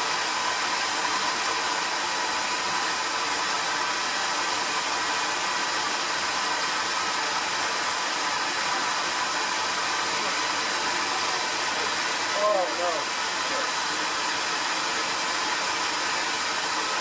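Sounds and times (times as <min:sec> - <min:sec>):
vacuum motor running: 0:00.0 - 0:17.0.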